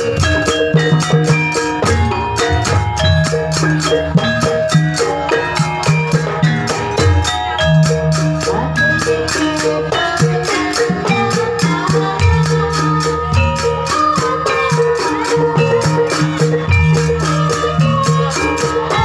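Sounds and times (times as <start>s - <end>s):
drums: 0.0s - 19.0s
marimba-like percussion: 0.0s - 19.0s.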